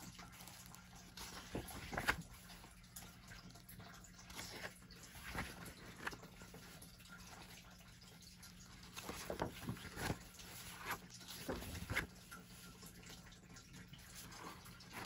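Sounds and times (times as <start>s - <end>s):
paper pages rustling: 0.0s - 7.6s, 8.6s - 15.0s.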